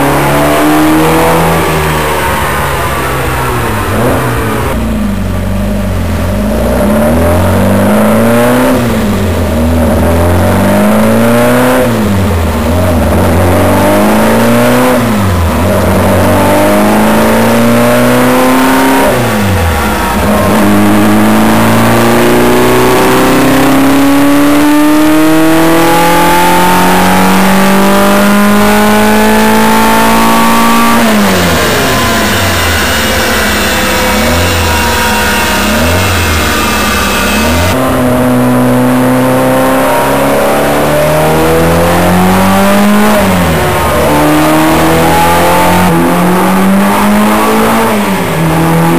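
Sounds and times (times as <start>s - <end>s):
racing engine revving: 0.0s - 48.9s.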